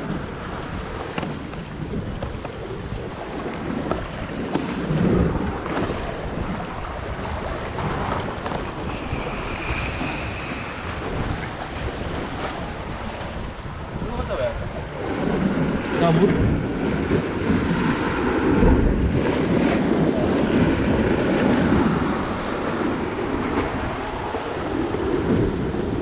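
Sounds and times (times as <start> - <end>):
sea waves washing between rocks: 0.0 - 26.0
wind buffeting microphone: 0.0 - 26.0.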